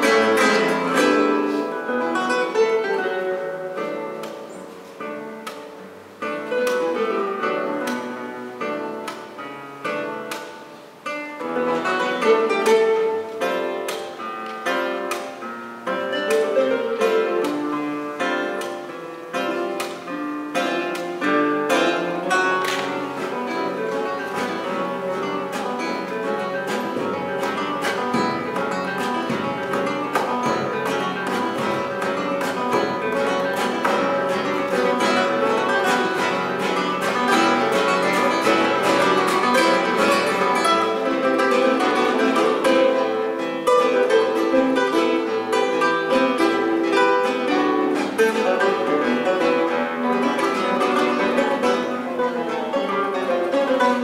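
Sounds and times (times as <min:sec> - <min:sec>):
classical guitars playing: 0:00.0 - 0:54.0.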